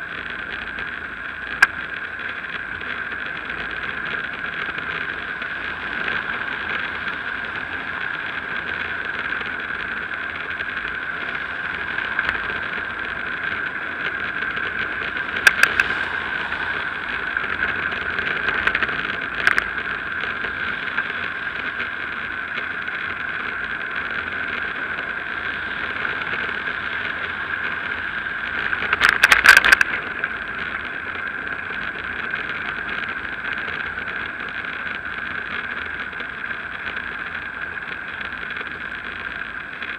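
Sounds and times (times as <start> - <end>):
bicycle rattling: 0.0 - 39.9
wind and road noise: 0.0 - 39.9.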